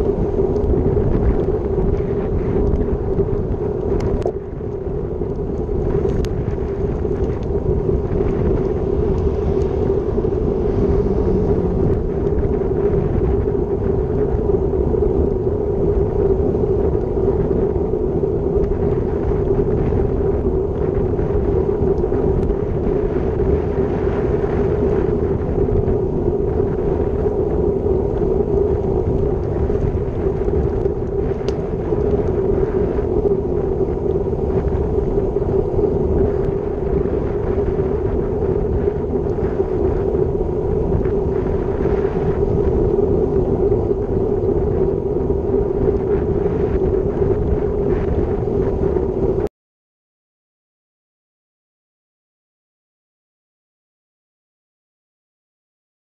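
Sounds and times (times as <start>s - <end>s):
constant hum: 0.0s - 49.5s
wind rumbling on microphone: 0.0s - 49.5s.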